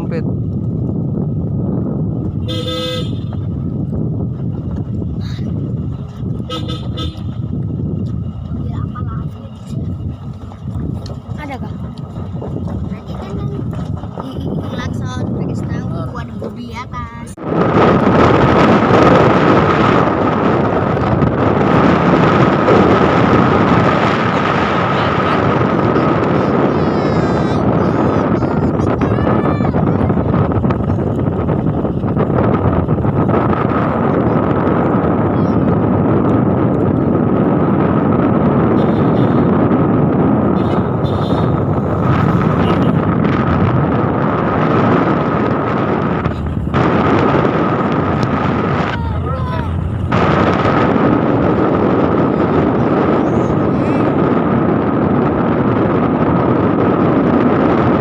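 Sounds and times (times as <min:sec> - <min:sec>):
vehicle driving: 0:00.0 - 0:58.0
wind buffeting microphone: 0:00.0 - 0:58.0.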